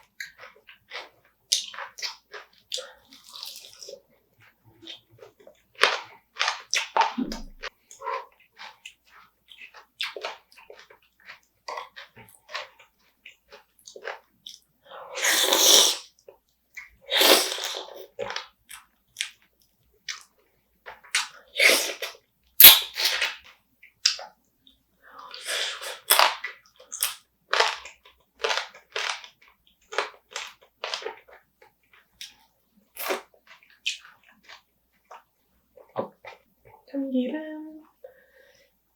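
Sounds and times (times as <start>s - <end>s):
wet chewing and crunching: 0.0s - 36.9s.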